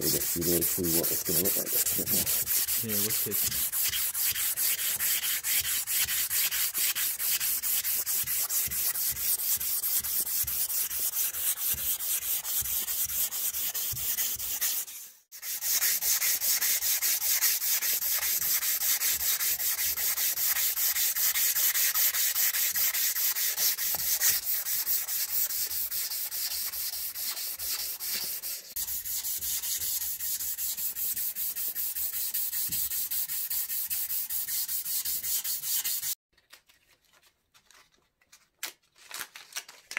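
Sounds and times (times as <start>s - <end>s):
abrasive paper rasping on handle: 0.0s - 36.2s.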